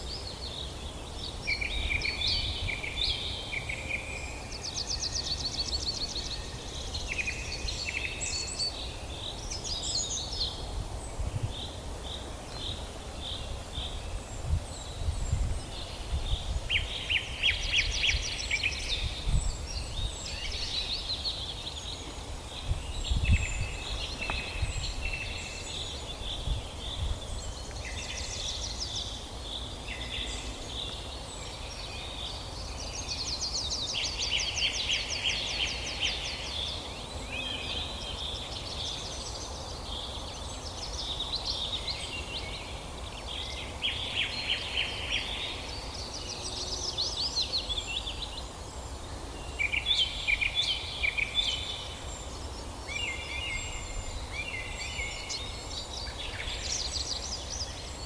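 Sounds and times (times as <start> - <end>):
wild birds chirping and trilling: 0.0 - 58.0.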